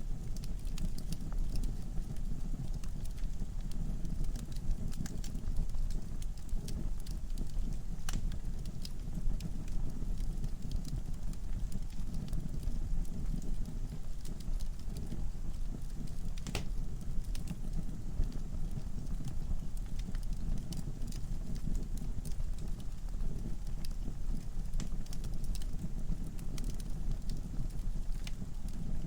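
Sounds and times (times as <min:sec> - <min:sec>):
wood fire crackling in fireplace: 0:00.0 - 0:29.0.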